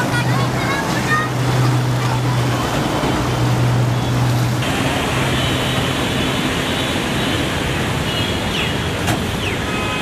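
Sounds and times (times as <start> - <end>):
rushing water: 0.0 - 10.0
traffic noise: 0.0 - 10.0
vehicle engine hum: 0.0 - 10.0.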